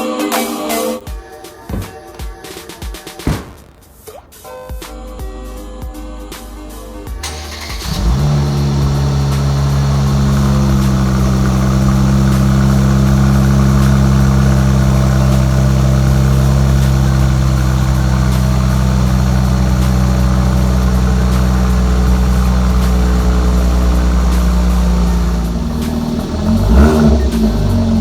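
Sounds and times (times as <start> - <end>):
car engine idling: 1.0 - 28.0.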